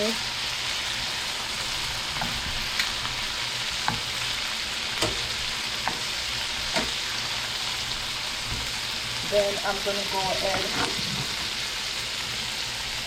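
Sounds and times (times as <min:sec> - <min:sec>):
oil and butter sizzling in a pot: 0:00.0 - 0:13.0.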